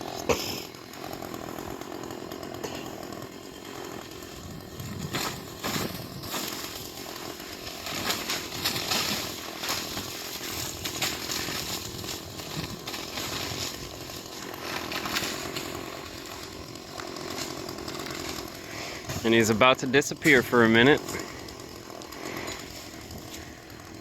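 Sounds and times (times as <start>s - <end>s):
chainsaw running: 0.0s - 24.0s.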